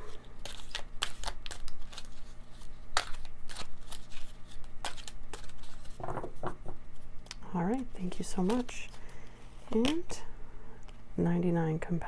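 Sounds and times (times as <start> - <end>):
cards being shuffled by hand: 0.0 - 10.2.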